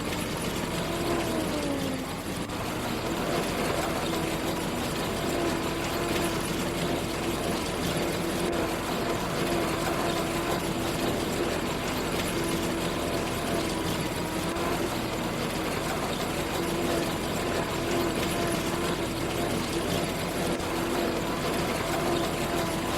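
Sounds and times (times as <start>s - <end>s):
farm machinery engine humming: 0.0s - 22.9s.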